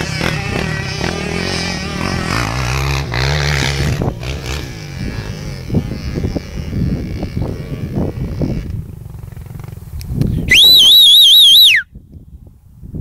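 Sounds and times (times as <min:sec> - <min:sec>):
motorbike engine revving: 0:00.0 - 0:11.2.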